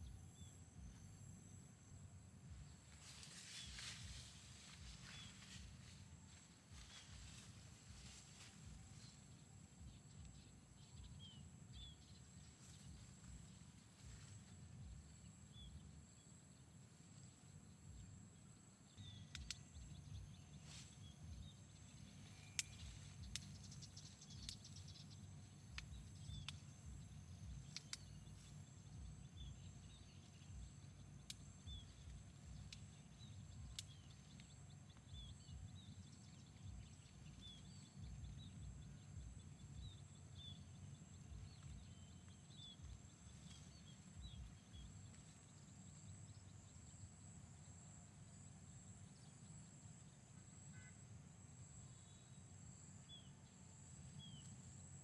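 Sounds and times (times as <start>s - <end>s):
insect chirps: 0.0s - 55.0s
insects droning: 0.0s - 55.0s.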